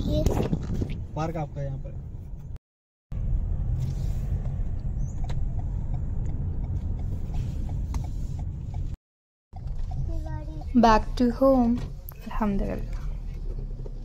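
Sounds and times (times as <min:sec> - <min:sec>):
road and wind rumble in car: 0:00.0 - 0:14.0.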